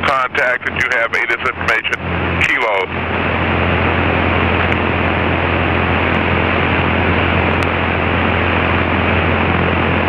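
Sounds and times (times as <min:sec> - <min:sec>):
aircraft engine and propeller drone: 0:00.0 - 0:10.0.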